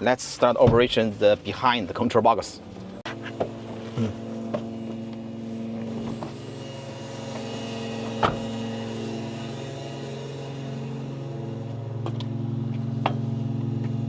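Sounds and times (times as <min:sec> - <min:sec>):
hydraulic pump motor humming: 0:02.6 - 0:14.0.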